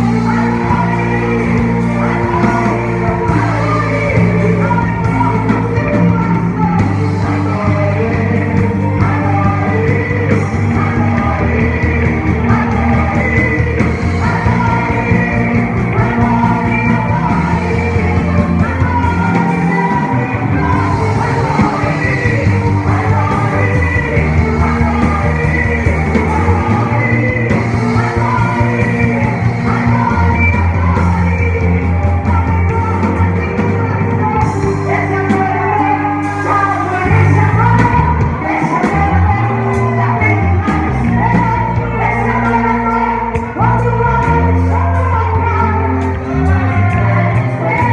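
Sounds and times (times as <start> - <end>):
band playing praise music: 0.0 - 47.9
bass line: 0.0 - 47.9
person singing: 0.0 - 47.9.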